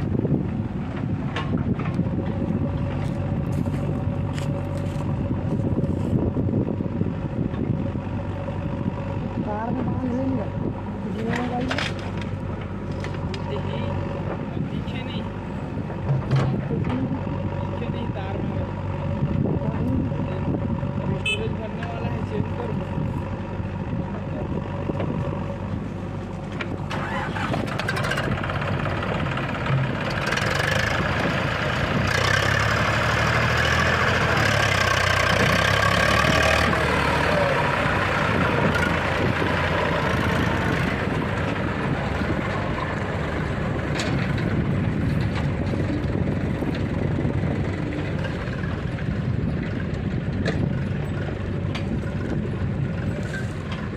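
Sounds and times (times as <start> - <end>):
diesel engines running: 0.0 - 53.9.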